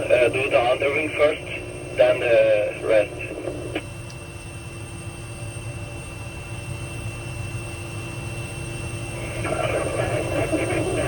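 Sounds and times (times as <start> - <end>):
airliner engines idling: 0.0 - 11.0.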